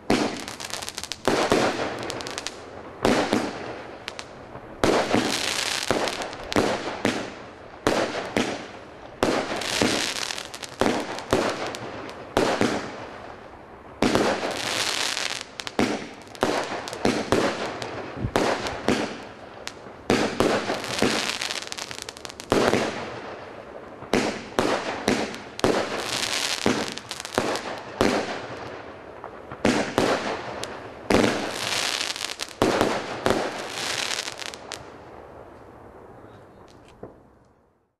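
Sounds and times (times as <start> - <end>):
firework hiss: 0.0 - 13.2, 14.1 - 23.5, 24.2 - 28.6, 29.6 - 34.9
fireworks bursting: 0.0 - 37.2.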